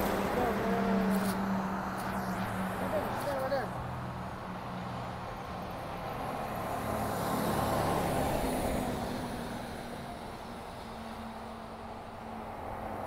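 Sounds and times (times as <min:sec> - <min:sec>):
ambulance driving past: 0:00.0 - 0:13.0.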